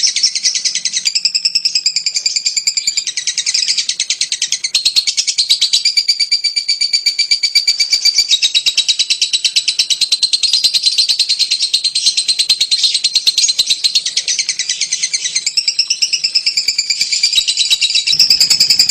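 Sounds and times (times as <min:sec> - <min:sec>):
lovebird chattering song: 0:00.0 - 0:18.9.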